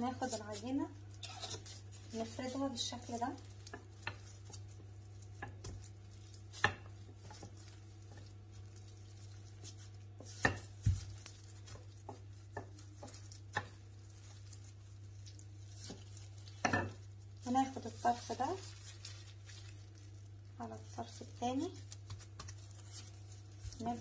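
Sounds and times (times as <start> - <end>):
rolling pin rolling dough: 1.4 - 20.1, 20.8 - 24.0.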